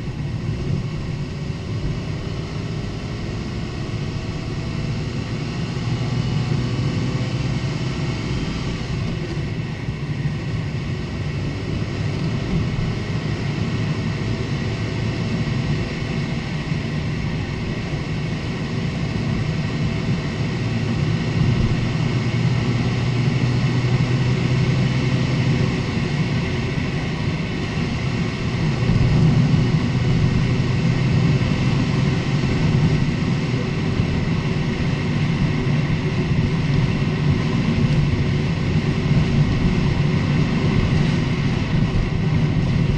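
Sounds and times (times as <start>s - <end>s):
car tyre and engine rumble: 0.0s - 42.9s.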